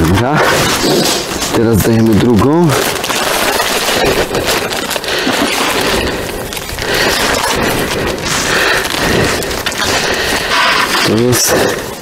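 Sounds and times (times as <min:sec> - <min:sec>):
bag crackling: 0:00.0 - 0:12.0
bait rustling through a sieve: 0:00.7 - 0:12.0.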